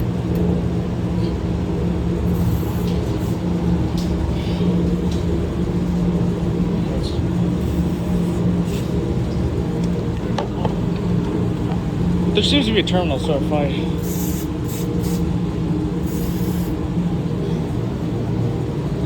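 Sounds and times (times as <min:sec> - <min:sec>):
air filtration unit droning: 0:00.0 - 0:19.0.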